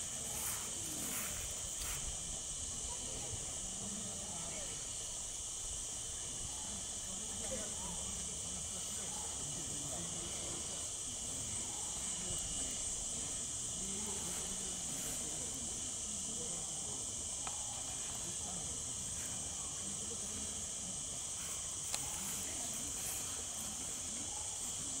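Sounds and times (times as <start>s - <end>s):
insect chorus drone: 0.0s - 25.0s.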